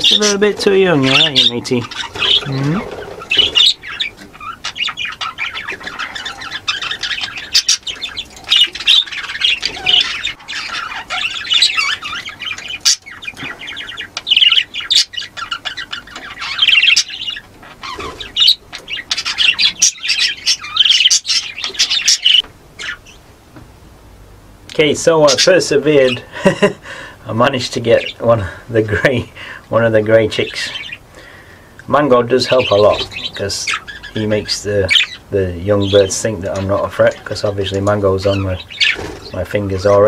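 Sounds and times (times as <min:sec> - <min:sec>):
budgerigars chattering: 0:00.0 - 0:23.2, 0:24.8 - 0:40.0.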